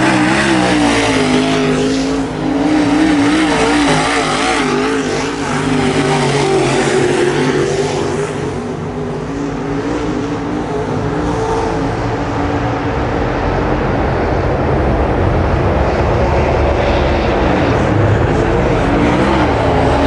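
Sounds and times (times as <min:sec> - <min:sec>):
race car engines droning: 0:00.0 - 0:20.0
race car passing close: 0:00.0 - 0:20.0.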